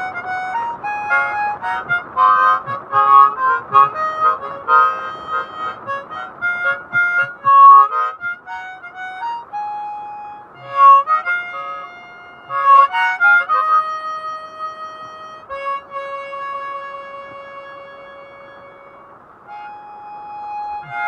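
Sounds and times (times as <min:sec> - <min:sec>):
harmonica playing: 0:00.0 - 0:21.0.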